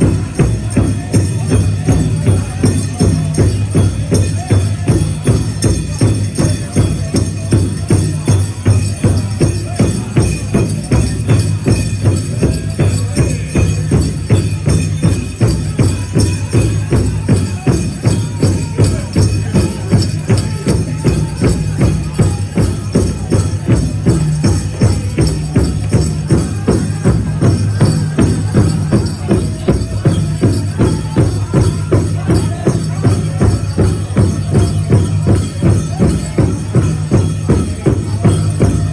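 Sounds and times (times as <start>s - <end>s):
large drum steady beat: 0.0s - 38.9s.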